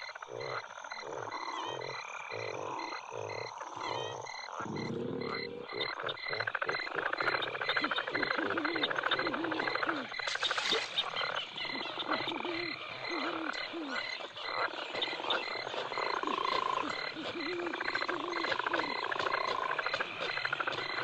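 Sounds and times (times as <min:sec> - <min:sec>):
frogs croaking: 0:00.0 - 0:21.0
insects chirping: 0:00.0 - 0:21.0.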